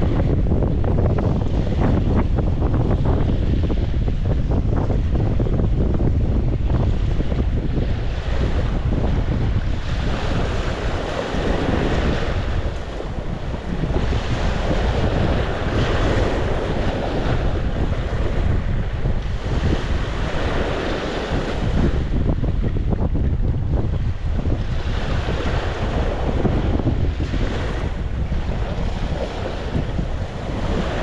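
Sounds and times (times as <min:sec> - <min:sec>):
sea waves breaking on shore: 0:00.0 - 0:31.0
wind buffeting microphone: 0:00.0 - 0:31.0.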